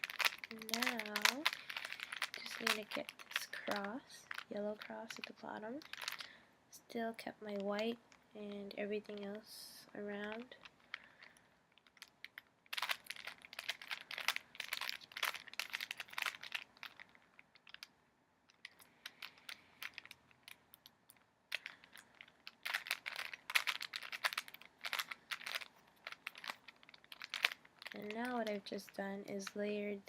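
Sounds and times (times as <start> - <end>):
puzzle cube plastic clicks: 0.0 - 6.3, 8.7 - 29.7.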